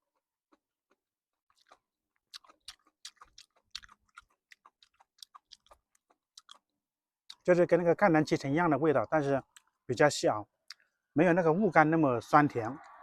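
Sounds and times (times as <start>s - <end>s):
chewing juicy fruit: 0.0s - 11.1s, 12.6s - 13.0s.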